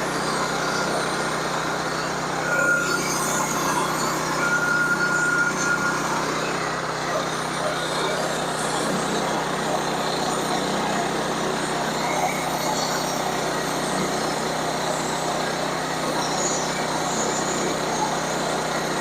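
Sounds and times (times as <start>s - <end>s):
saw cutting through log: 0.0s - 19.0s
sawmill engine running: 0.0s - 19.0s.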